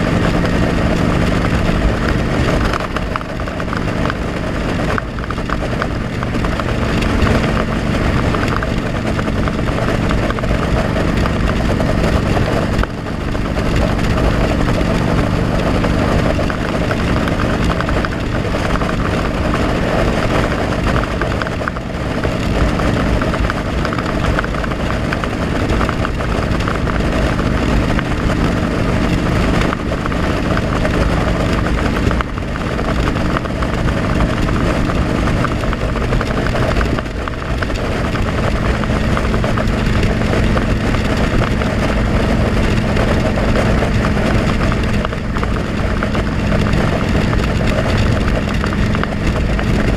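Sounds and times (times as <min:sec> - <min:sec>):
motorcycle engine running: 0:00.0 - 0:49.9
wind rush on microphone: 0:00.0 - 0:49.9.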